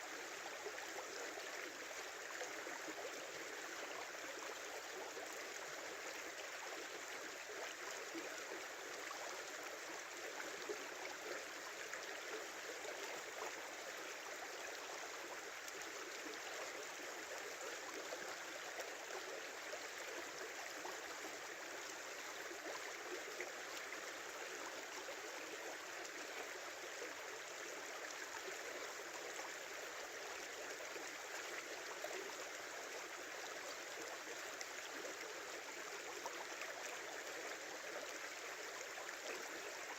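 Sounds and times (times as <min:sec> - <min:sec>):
small river babbling: 0:00.0 - 0:39.9.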